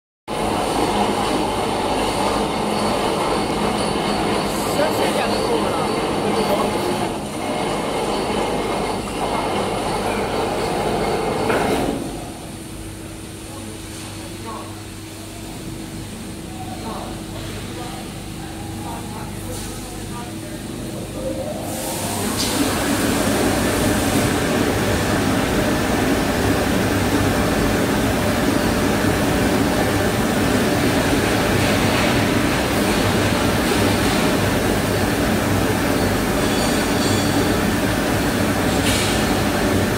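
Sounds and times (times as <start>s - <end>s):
machine motors and fans whirring: 0.3s - 39.9s.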